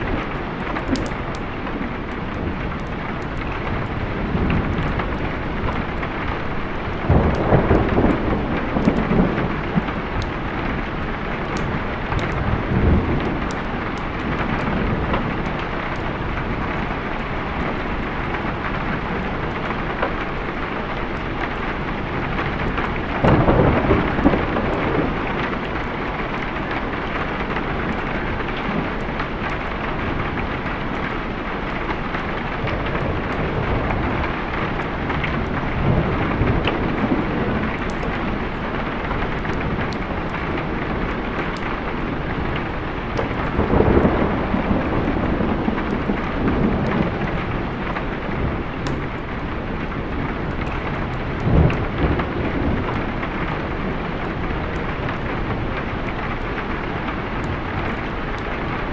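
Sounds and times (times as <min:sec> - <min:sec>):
rolling thunder: 0:00.0 - 0:58.9
steady rain: 0:00.0 - 0:58.9.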